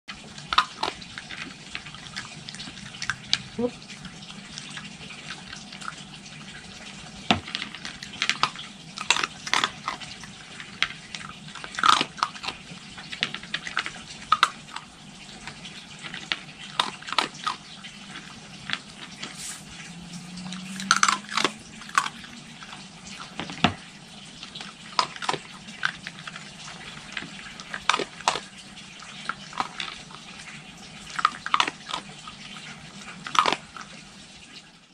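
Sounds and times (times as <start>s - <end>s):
fox cub crunching food pellets: 0.1s - 34.6s.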